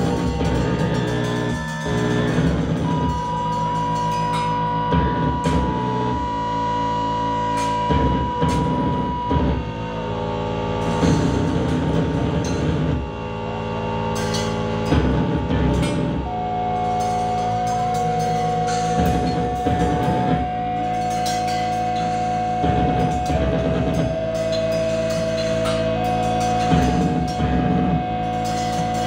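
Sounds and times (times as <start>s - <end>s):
drum and cymbal hits: 0.0s - 29.0s
high held tone: 0.0s - 29.0s
low bass drone: 0.0s - 29.0s.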